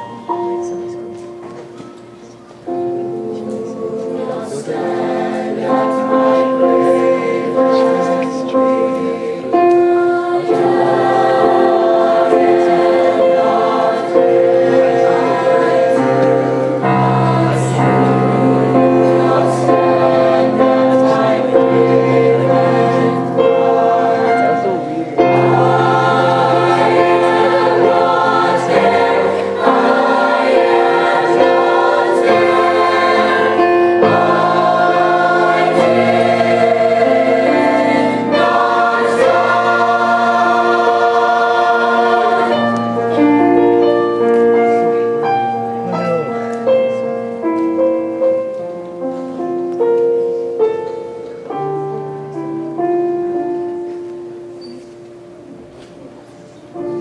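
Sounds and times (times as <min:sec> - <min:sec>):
mixed choir singing chords: 0:02.6 - 0:54.6, 0:56.6 - 0:57.0.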